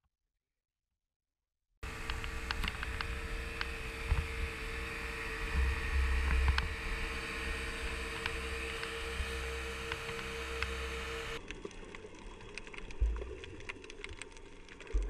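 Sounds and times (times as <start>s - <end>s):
outboard motors running: 1.8s - 15.0s.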